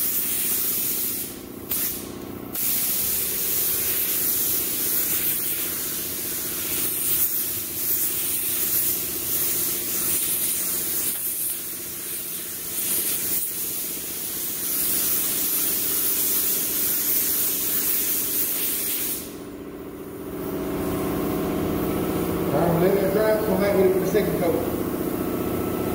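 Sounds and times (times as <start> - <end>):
paint spray gun hissing: 0.0 - 22.5
steady mechanical hum: 0.0 - 25.9.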